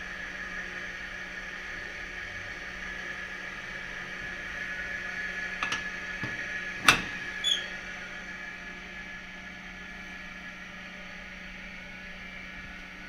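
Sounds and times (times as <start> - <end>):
refrigeration unit humming: 0.0 - 13.0.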